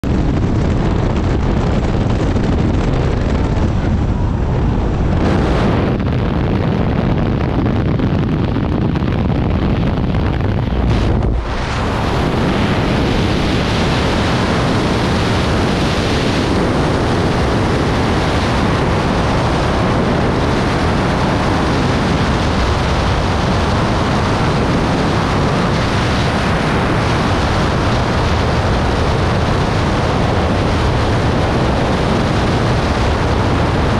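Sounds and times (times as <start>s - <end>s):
aircraft cabin and engine noise: 0.0s - 33.9s
freefall wind blast: 0.0s - 33.9s.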